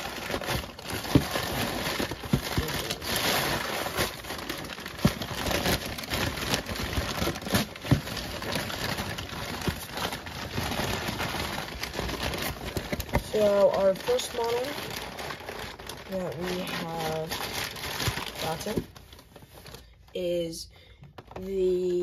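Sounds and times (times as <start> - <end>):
cardboard box crinkling and rustling: 0.0 - 19.8.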